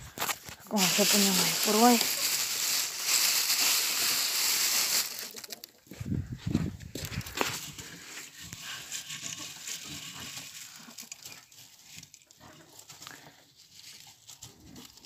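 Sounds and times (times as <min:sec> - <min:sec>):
straw and corn rustling: 0:00.0 - 0:15.0.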